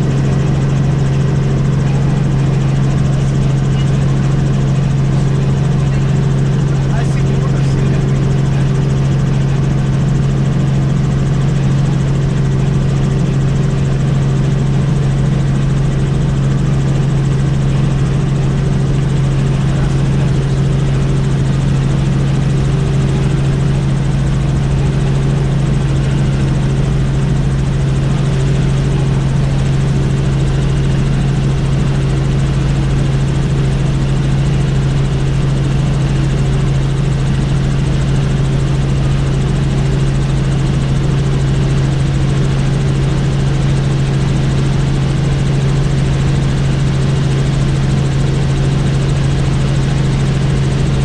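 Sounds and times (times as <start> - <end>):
helicopter engine and rotors: 0.0 - 51.0.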